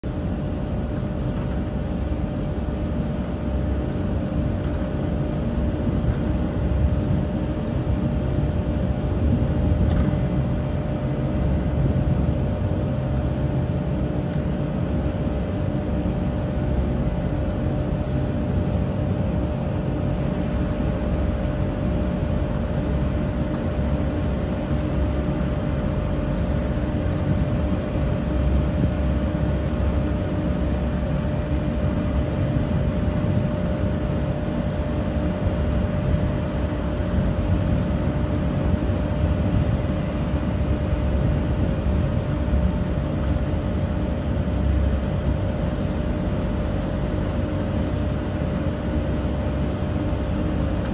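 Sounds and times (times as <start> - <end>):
industrial machinery rumbling: 0.0 - 50.9.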